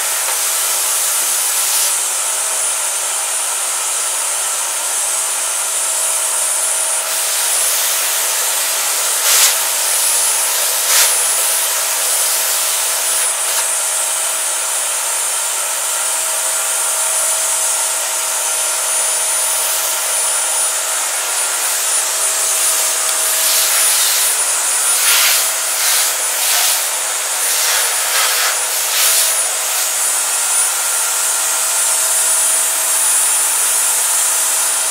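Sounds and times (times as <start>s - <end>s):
electric motor with rushing air: 0.0s - 4.7s, 5.8s - 34.9s.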